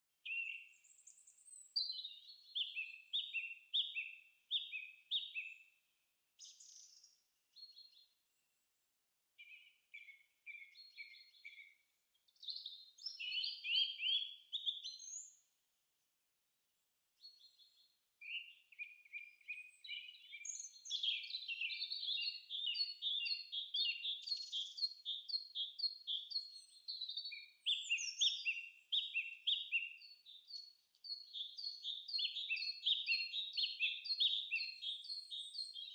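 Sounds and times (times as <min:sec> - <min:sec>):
birds chirping and singing: 0:00.3 - 0:05.6, 0:09.4 - 0:11.7, 0:12.4 - 0:15.4, 0:17.2 - 0:35.9.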